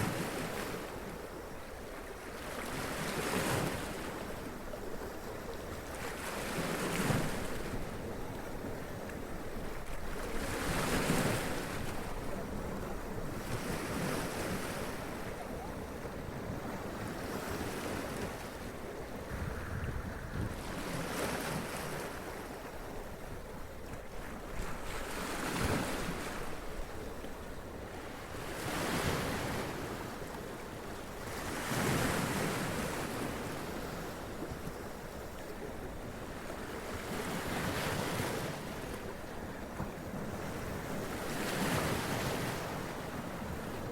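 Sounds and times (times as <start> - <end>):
steady surf wash: 0.0 - 43.9.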